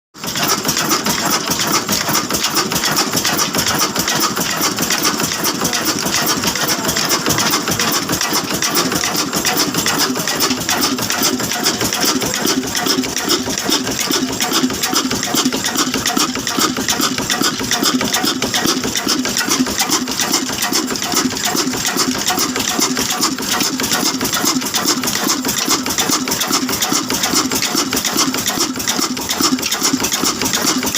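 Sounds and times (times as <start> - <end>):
stationary diesel engine running: 0.2 - 30.9.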